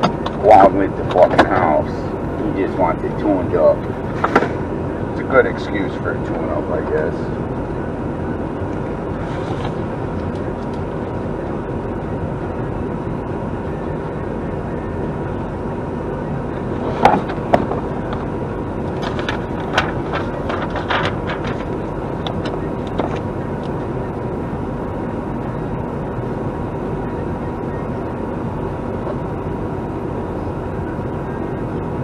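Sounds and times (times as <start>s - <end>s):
faint steady hum: 0.0s - 32.0s
vehicle running inside cab: 0.0s - 32.0s.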